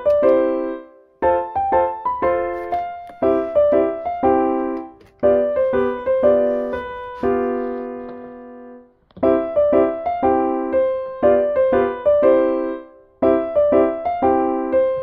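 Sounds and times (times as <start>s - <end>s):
piano chords and notes: 0.0s - 15.0s.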